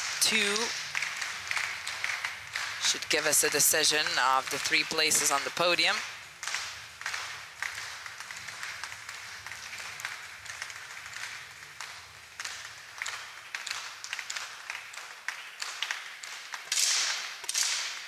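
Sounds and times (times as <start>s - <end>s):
claps and clicks: 0.0s - 18.0s.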